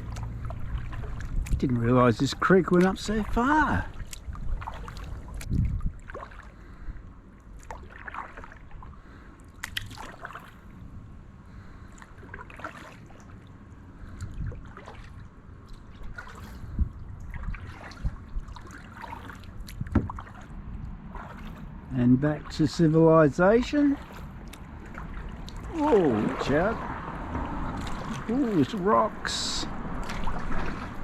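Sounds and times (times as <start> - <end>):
paddle strokes in water: 0.0 - 31.0
water splashes and drips: 0.0 - 31.0.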